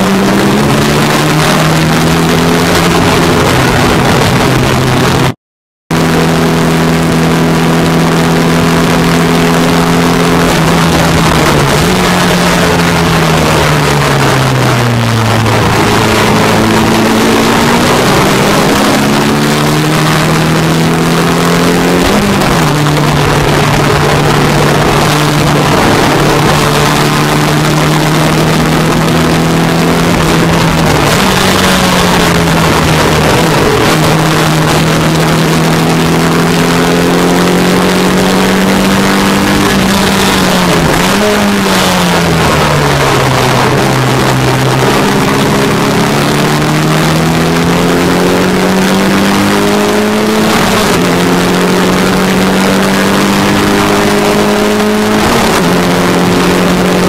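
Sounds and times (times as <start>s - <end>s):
racing car engine revving: 0.0s - 57.0s
rushing wind: 0.0s - 57.0s.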